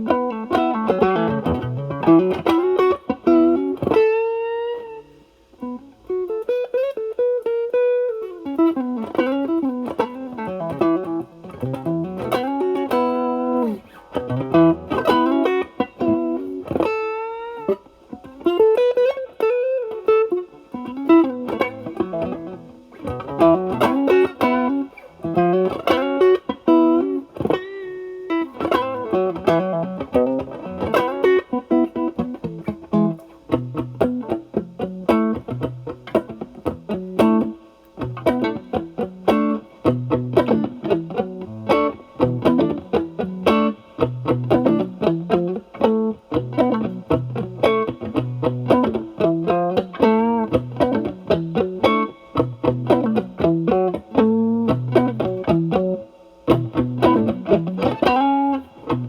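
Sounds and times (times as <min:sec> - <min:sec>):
electric guitar licks: 0:00.0 - 0:59.0.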